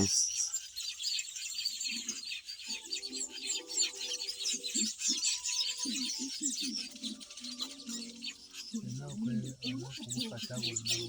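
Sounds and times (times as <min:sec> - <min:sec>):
lower-pitched bird notes: 0:00.0 - 0:11.0
weaver birds chattering: 0:00.0 - 0:11.0.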